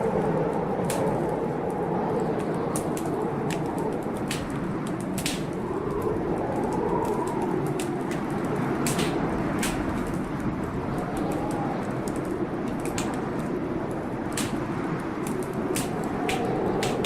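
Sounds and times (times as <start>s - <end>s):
rain: 0.0s - 17.0s
wind: 0.0s - 17.0s
wood fire crackling: 0.0s - 17.0s.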